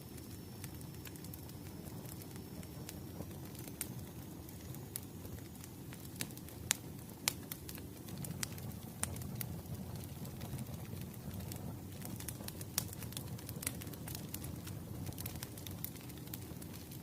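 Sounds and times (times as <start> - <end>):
fire rumbling: 0.0 - 17.0
firewood crackling and popping: 0.0 - 17.0.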